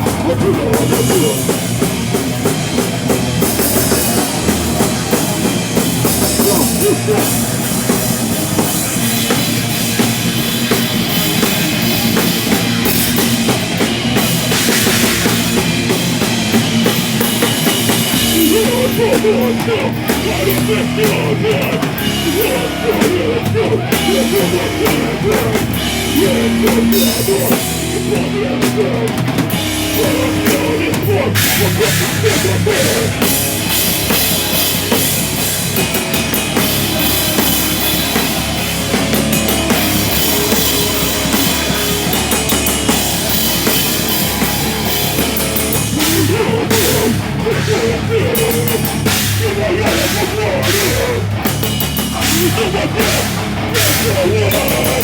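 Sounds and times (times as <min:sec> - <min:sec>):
bass guitar: 0:00.0 - 0:55.0
distorted electric guitars: 0:00.0 - 0:55.0
drum kit with busy cymbals: 0:00.0 - 0:55.0.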